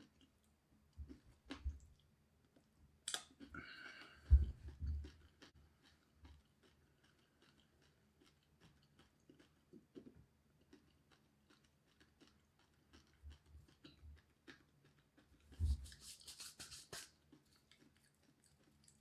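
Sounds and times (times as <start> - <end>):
faint chewing crunches: 0.0 - 19.0.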